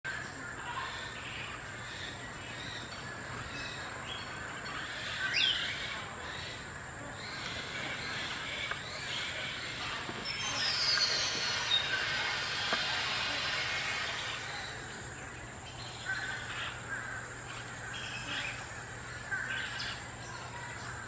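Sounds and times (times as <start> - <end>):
birds calling: 0.1 - 21.0
high-pitched background hum: 0.1 - 21.0.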